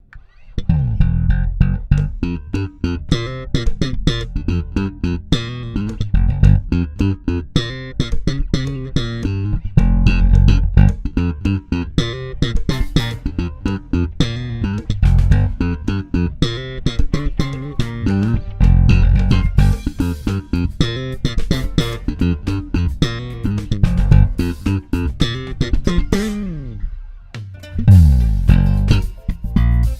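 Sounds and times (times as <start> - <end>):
slap bass funk line: 0.6 - 26.9, 27.8 - 29.9.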